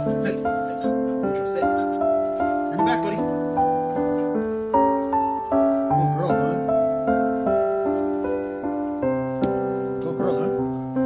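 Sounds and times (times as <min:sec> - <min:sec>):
light keyboard tune: 0:00.0 - 0:11.0.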